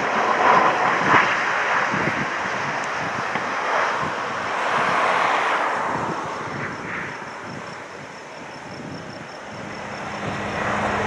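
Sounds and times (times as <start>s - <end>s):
jet engines rushing on landing: 0.0s - 11.0s.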